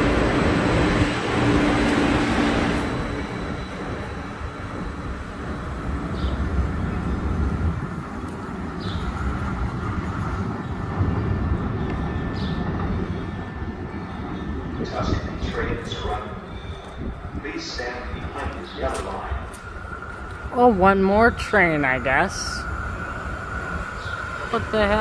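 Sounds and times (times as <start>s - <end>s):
train pulling out: 0.0s - 25.0s.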